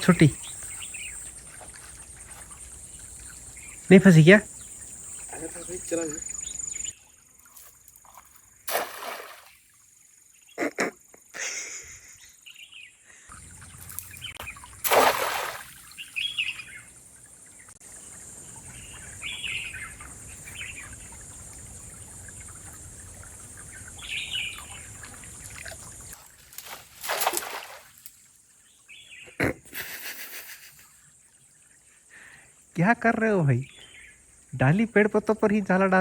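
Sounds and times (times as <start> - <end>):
birds chirping: 0.0 - 7.0, 10.4 - 26.2, 28.6 - 36.0
steady outdoor background hiss: 0.0 - 36.0.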